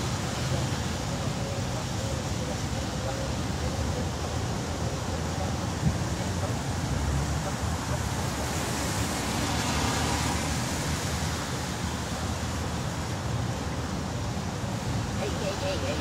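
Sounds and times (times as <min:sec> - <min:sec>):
passing cars: 0:00.0 - 0:16.0.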